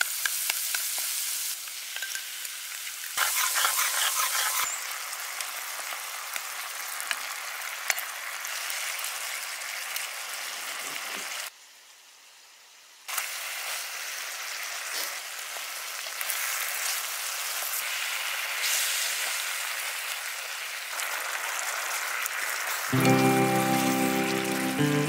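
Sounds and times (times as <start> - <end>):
sauce sizzling in a wok: 0.0 - 25.0.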